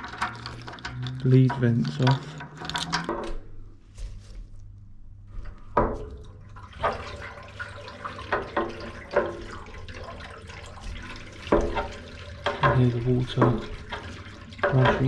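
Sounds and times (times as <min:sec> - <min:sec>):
water rushing through pipes: 0:00.0 - 0:03.4, 0:05.4 - 0:15.0.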